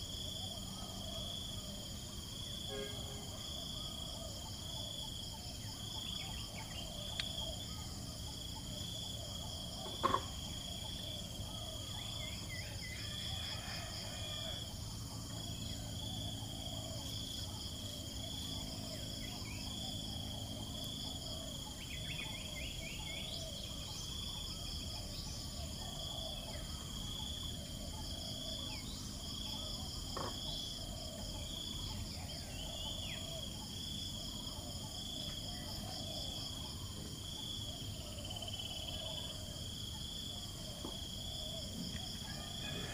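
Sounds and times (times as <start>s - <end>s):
insect chorus chirring: 0.0s - 42.9s.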